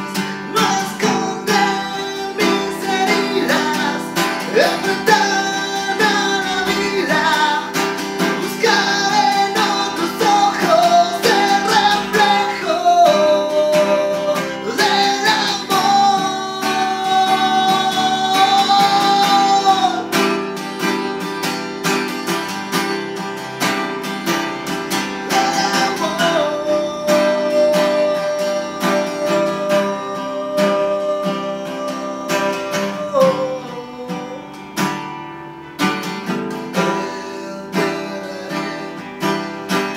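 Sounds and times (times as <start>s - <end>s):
man singing: 0.0s - 21.5s, 24.7s - 35.1s, 36.0s - 39.9s
strummed acoustic guitar: 0.0s - 39.9s.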